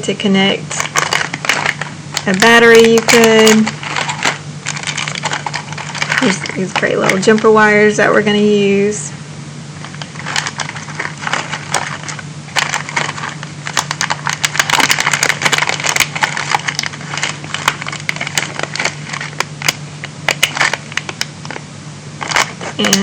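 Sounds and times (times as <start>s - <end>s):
low electrical hum: 0.0s - 23.0s
plastic packaging crinkling: 0.7s - 7.6s, 9.8s - 23.0s
small parts clicking and rattling: 0.8s - 7.4s, 9.9s - 21.6s, 22.2s - 23.0s.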